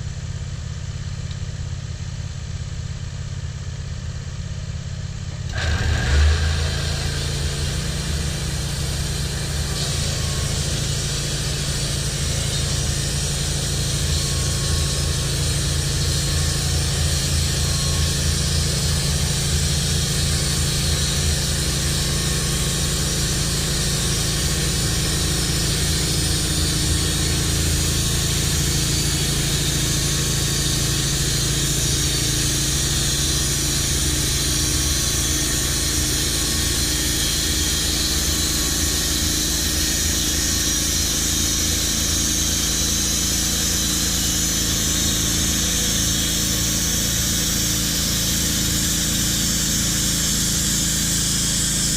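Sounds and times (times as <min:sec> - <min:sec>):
band sawmill engine running: 0:04.6 - 0:51.9.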